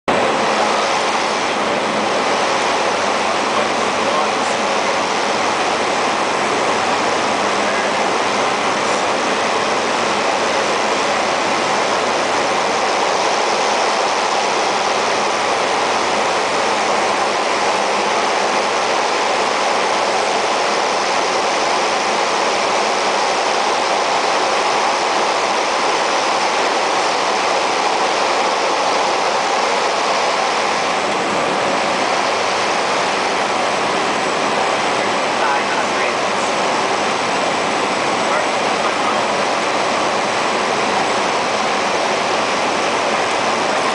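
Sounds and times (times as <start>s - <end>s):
turboprop aircraft engine roar: 0.0s - 43.9s.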